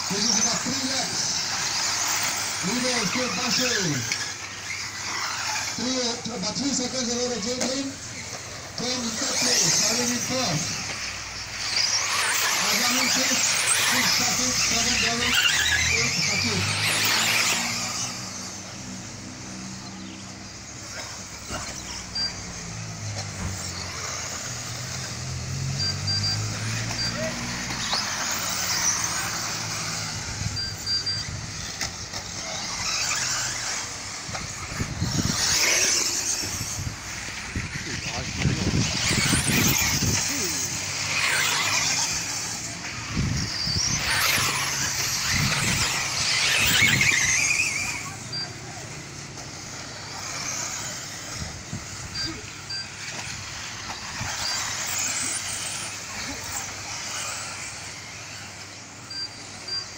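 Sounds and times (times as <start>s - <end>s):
rc car motor whine: 0.0s - 59.9s.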